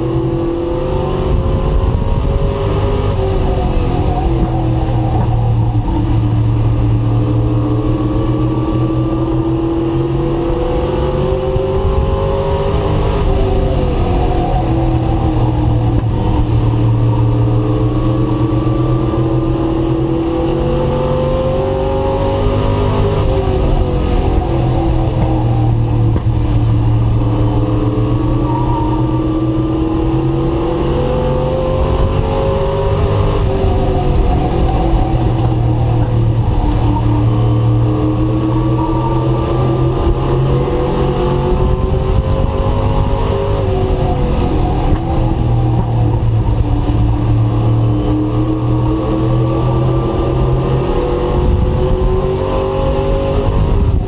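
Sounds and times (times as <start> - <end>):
race truck engine revving: 0.0 - 54.0.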